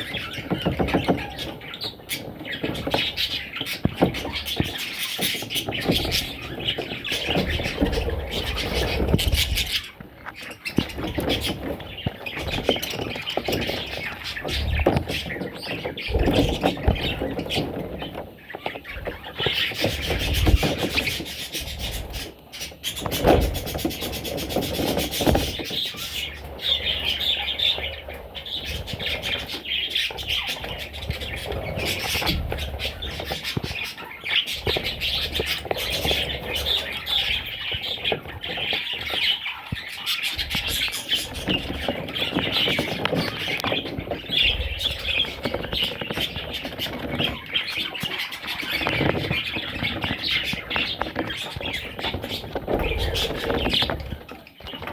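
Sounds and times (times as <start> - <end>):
chicks cheeping: 0.0 - 54.9
knocks and rustles: 0.0 - 54.9.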